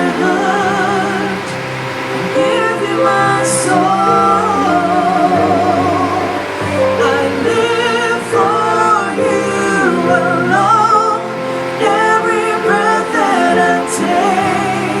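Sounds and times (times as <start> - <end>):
voices singing worship song: 0.0 - 15.0.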